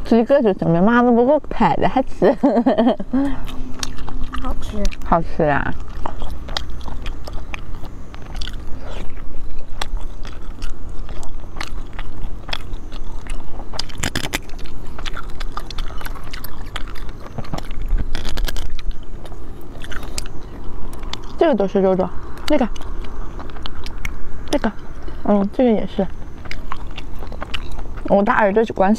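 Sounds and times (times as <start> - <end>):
biting and chewing: 0.0 - 28.9
snail shells clicking and scraping: 3.1 - 28.9.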